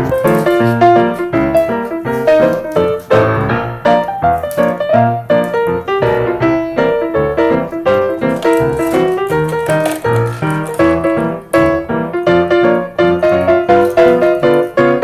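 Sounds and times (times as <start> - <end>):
upbeat piano music: 0.0 - 15.0.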